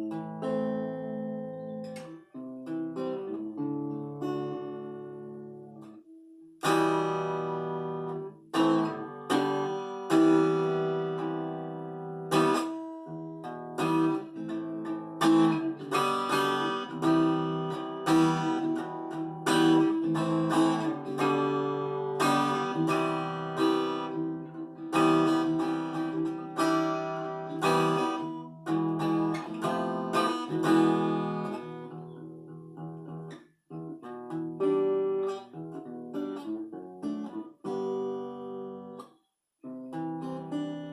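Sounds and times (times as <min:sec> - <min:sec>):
acoustic guitar strumming chords: 0:00.0 - 0:40.9.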